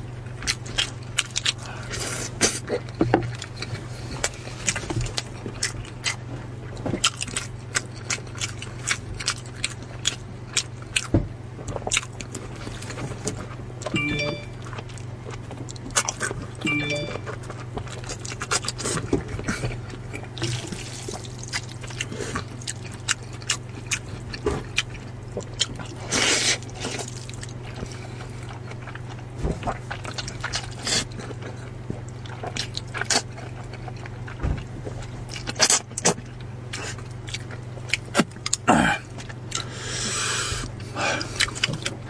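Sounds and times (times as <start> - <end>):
wet chewing: 0.4 - 11.1, 17.3 - 39.7, 41.2 - 42.0.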